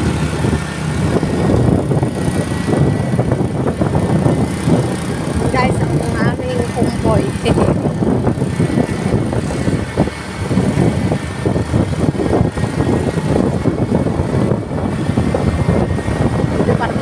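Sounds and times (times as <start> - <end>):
rushing wind: 0.0 - 17.0
vehicle road noise: 0.0 - 17.0
wind buffeting microphone: 0.0 - 17.0.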